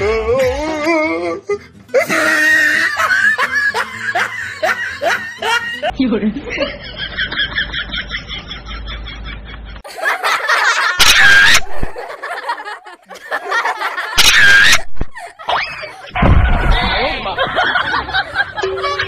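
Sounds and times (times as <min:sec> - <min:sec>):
people laughing: 0:01.9 - 0:19.0.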